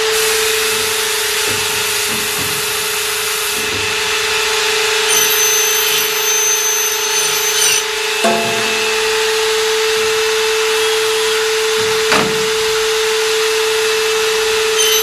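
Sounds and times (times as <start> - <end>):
high machine whine: 0.0 - 15.0
machine hum: 0.0 - 15.0
machining noise: 0.0 - 15.0.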